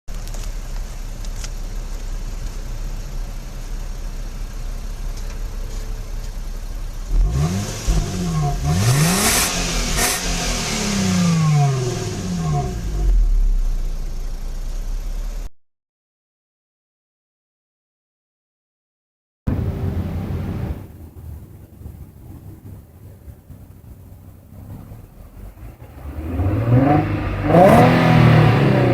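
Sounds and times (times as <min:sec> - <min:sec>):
car engine idling and revving: 0:00.1 - 0:15.5, 0:19.5 - 0:28.9.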